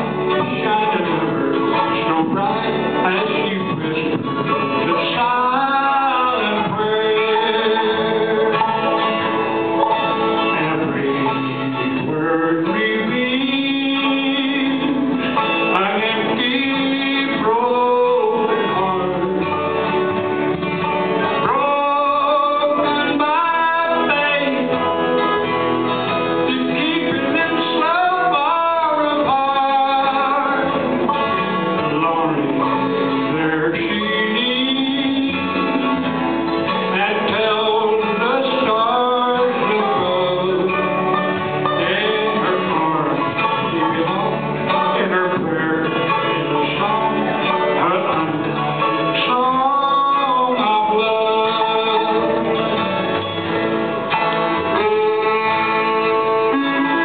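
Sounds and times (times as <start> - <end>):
acoustic guitar: 0.0 - 57.0
person singing: 0.0 - 57.0
plucked strings: 0.0 - 57.0.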